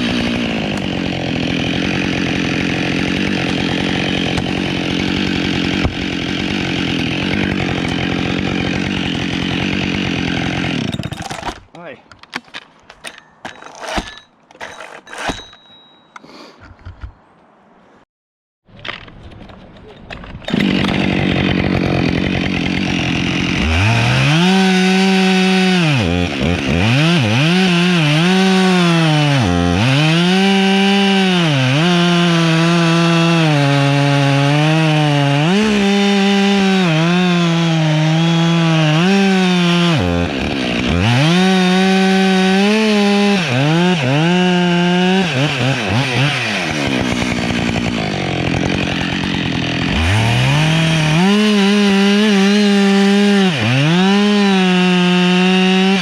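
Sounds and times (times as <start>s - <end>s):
chainsaw cutting wood: 0.0s - 11.7s, 13.7s - 15.5s, 20.3s - 56.0s.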